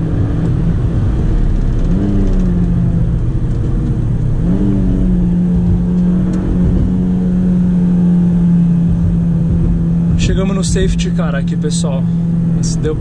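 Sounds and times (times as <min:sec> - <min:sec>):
car engine pulling hard: 0:00.0 - 0:13.0
road rumble: 0:00.0 - 0:13.0.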